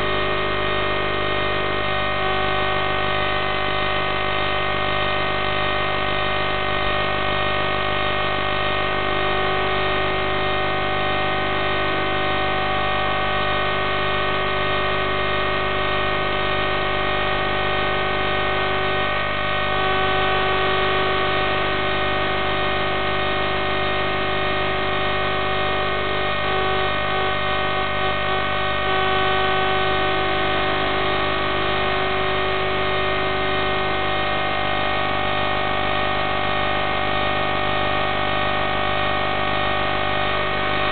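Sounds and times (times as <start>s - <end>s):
steady electronic buzz: 0.0s - 40.9s.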